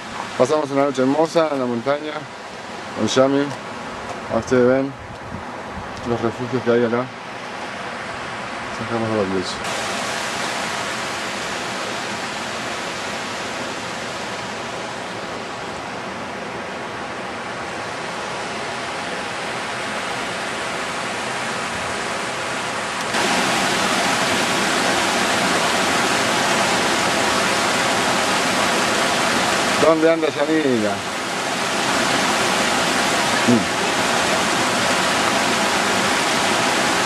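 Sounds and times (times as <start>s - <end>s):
stream running over rocks: 0.0s - 4.4s, 9.3s - 16.2s, 16.9s - 37.0s.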